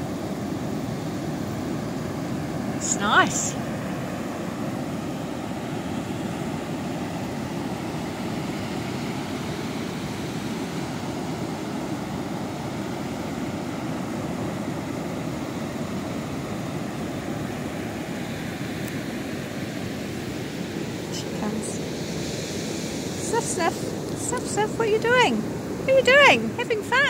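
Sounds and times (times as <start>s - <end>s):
ocean surf breaking: 0.0s - 27.0s.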